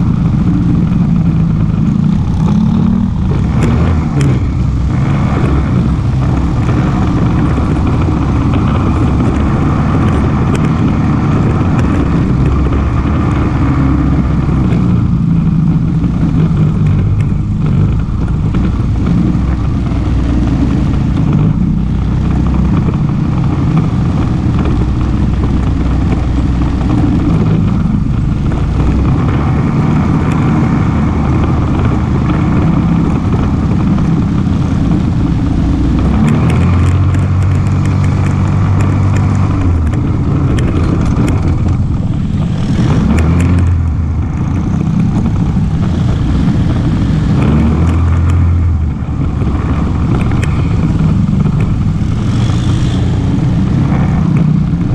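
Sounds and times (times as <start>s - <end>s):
atv engine running: 0.0s - 54.9s
clicks and rattles: 0.2s - 54.9s.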